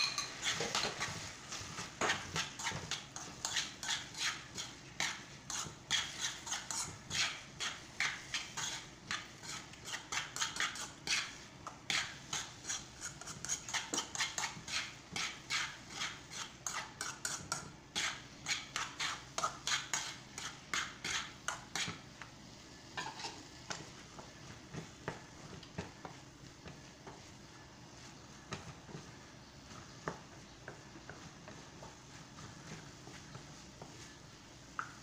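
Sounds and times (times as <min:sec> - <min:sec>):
utensil scraping frying pan: 0:00.0 - 0:22.0, 0:22.9 - 0:34.2.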